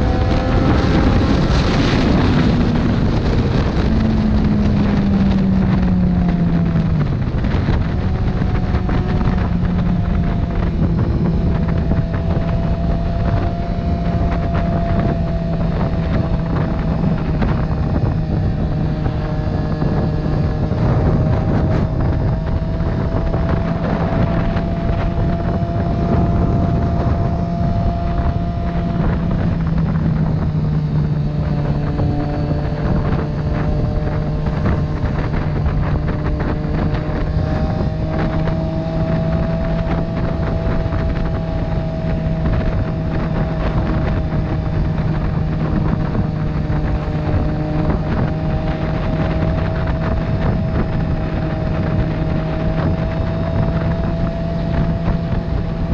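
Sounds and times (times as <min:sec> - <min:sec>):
motorcycle engine cruising: 0:00.0 - 0:55.9
wind rushing over microphone: 0:00.0 - 0:55.9.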